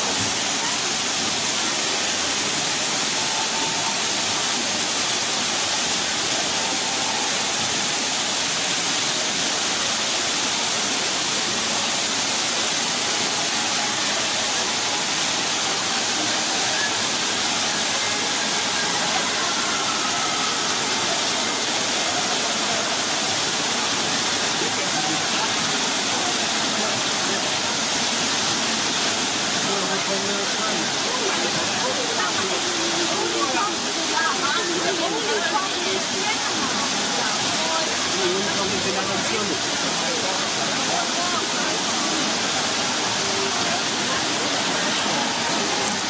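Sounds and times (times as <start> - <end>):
waterfall pouring into pool: 0.0 - 46.0.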